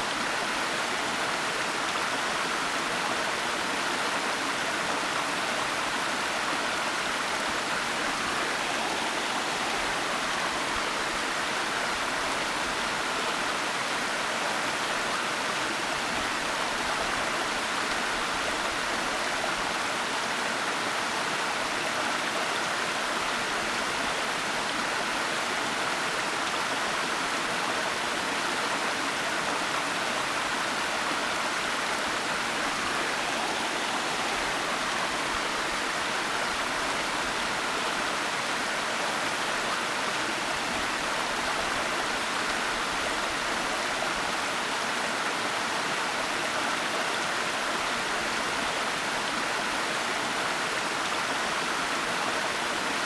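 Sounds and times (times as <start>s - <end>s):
waterfall rushing water: 0.0s - 53.0s.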